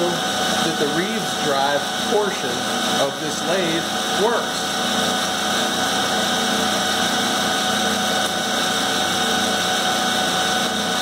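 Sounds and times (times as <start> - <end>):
lathe whirring: 0.0 - 11.0.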